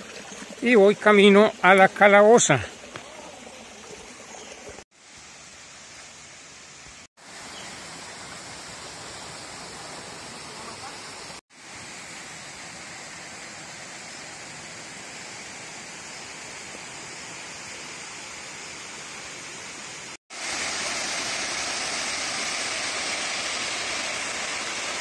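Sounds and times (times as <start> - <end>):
stream and waterfall rushing: 0.0 - 25.0.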